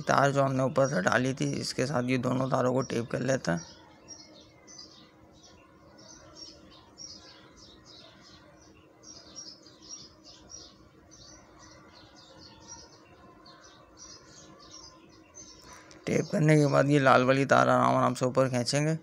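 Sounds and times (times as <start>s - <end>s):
faint steady hum: 0.0s - 19.0s
small birds chirping: 0.0s - 19.0s.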